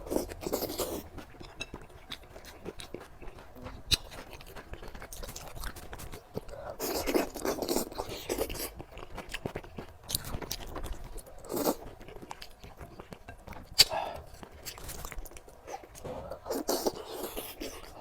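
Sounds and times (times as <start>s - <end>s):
person chewing and biting food: 0.0s - 18.0s.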